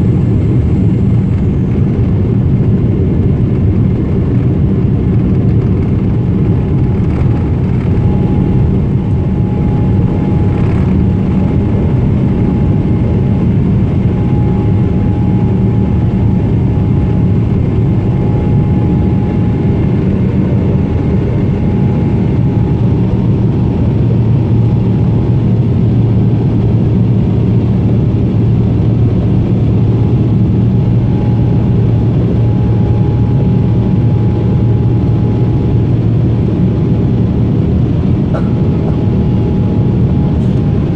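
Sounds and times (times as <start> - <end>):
airplane cabin engine roar: 0.0 - 40.9.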